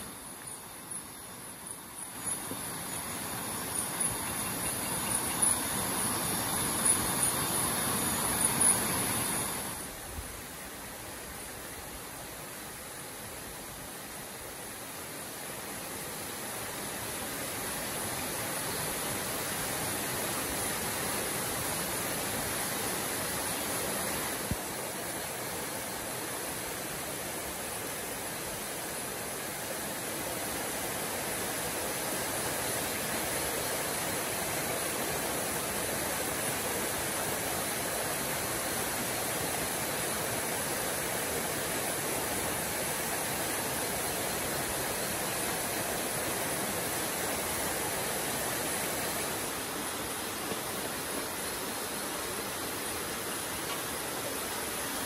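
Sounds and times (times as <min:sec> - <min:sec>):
constant high hiss: 0:00.0 - 0:55.0.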